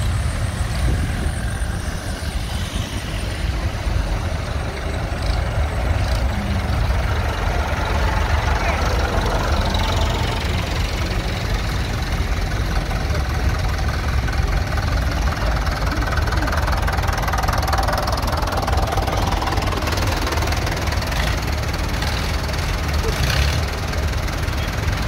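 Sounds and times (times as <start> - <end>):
tractor engines running: 0.0 - 25.0.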